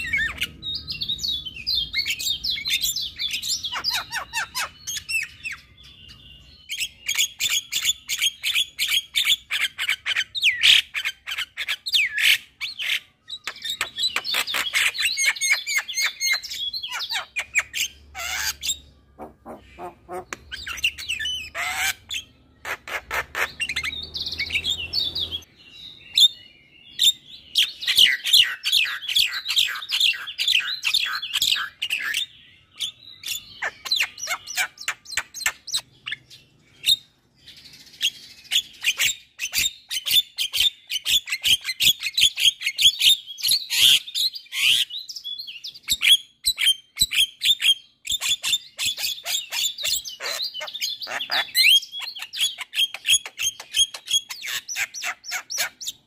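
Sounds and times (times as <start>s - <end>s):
bird chattering song: 0.0s - 56.0s.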